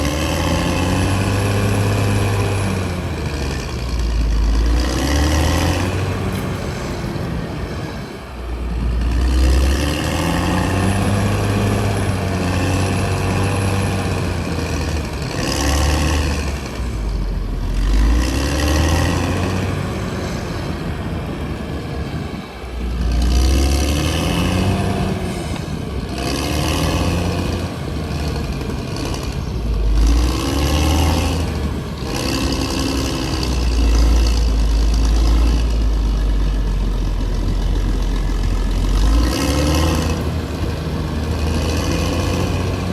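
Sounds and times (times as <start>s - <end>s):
bulldozer diesel engine working: 0.0s - 42.9s.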